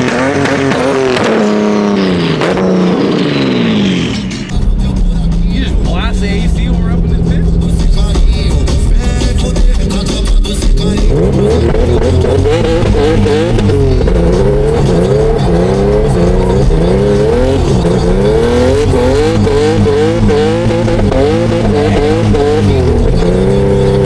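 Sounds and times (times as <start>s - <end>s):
car engine revving hard: 0.0s - 24.0s.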